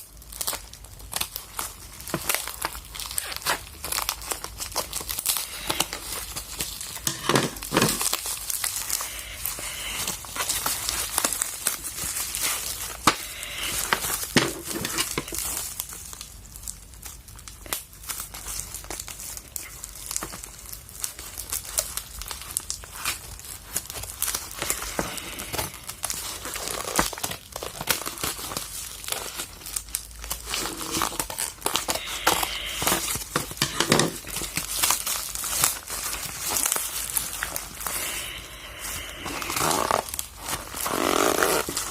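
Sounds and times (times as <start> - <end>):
packaging tearing: 0.0 - 41.9
plastic wrapping crinkling: 0.0 - 41.9.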